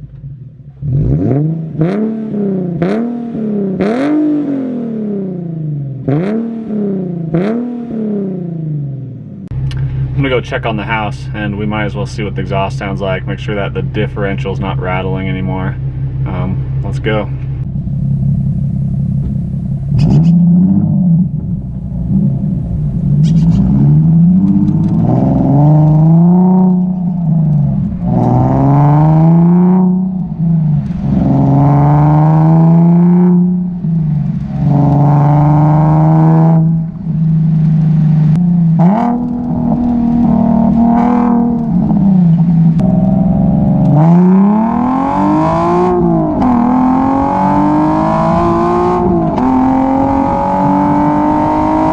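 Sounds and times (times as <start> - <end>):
loud car engine accelerating: 0.0 - 51.9.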